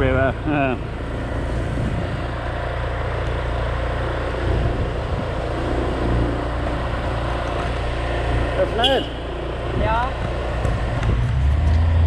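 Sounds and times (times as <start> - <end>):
motor scooter engine drone: 0.0 - 12.0
wind and road noise: 0.0 - 12.0.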